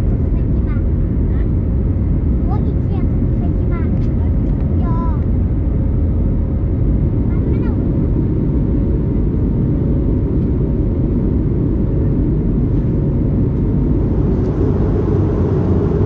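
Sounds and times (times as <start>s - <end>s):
airplane cabin engine noise: 0.0s - 16.0s.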